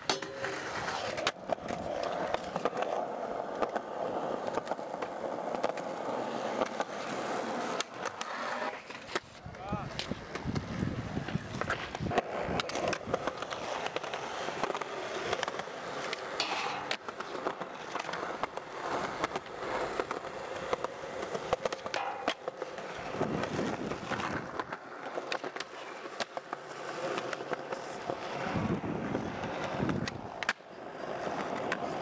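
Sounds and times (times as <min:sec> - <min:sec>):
skateboard clacking on ground: 0:00.0 - 0:32.0
skateboard wheels rolling on concrete: 0:00.0 - 0:32.0.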